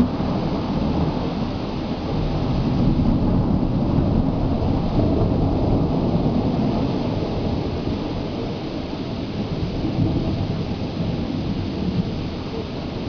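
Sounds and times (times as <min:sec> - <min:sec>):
rain: 0:00.0 - 0:13.0
rolling thunder: 0:00.0 - 0:13.0.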